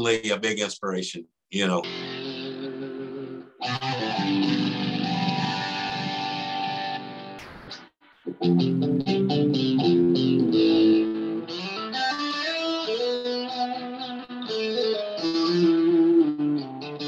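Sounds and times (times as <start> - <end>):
electric guitar playing: 1.8 - 17.0.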